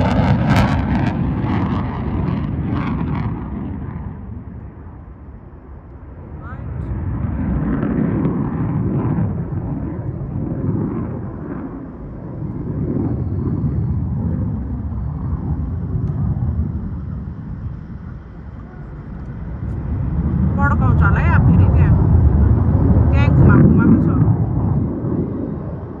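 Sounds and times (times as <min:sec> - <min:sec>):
fighter jet engine rumble: 0:00.0 - 0:26.0.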